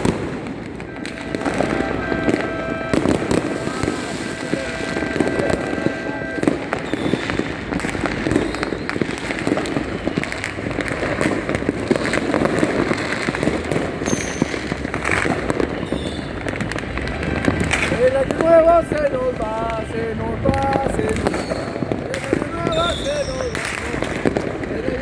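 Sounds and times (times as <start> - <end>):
firework whistle: 0.0 - 19.9, 20.8 - 25.0
fireworks crackling and banging: 0.0 - 25.0.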